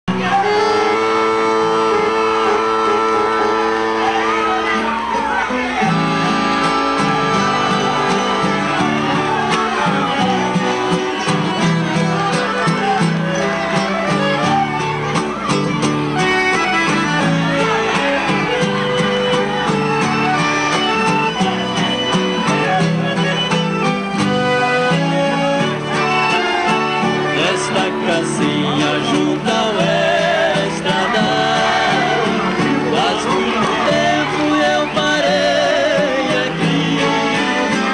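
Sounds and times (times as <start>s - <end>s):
accordion chords: 0.1s - 37.9s
strummed acoustic guitars: 0.1s - 37.9s.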